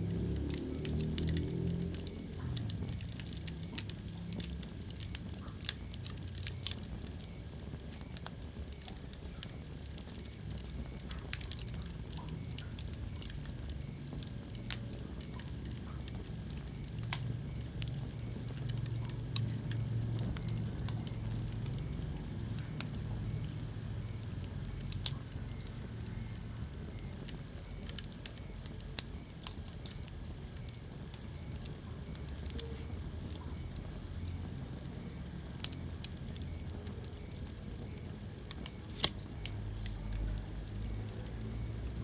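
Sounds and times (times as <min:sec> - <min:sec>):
low rumble of flame: 0:00.0 - 0:42.0
wood fire crackling and popping: 0:00.0 - 0:42.0.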